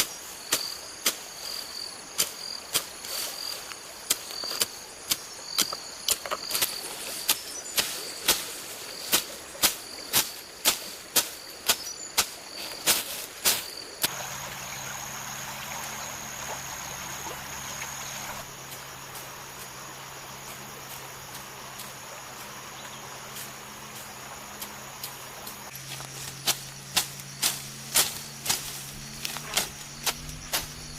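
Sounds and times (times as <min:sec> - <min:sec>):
insects chirring: 0:00.0 - 0:30.9.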